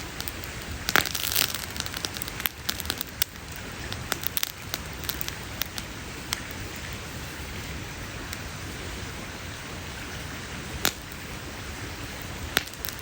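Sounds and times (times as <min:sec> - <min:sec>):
campfire crackling and popping: 0:00.0 - 0:13.0
fire hissing: 0:00.0 - 0:13.0.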